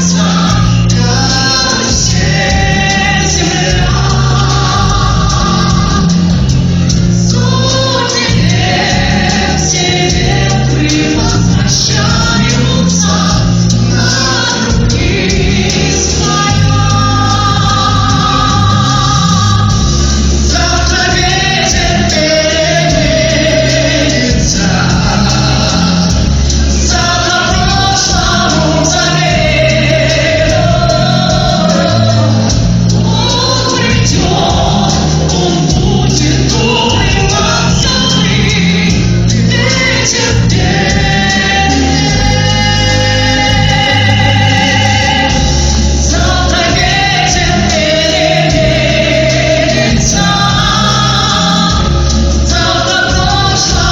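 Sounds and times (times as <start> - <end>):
musical accompaniment with bass line: 0.0 - 53.9.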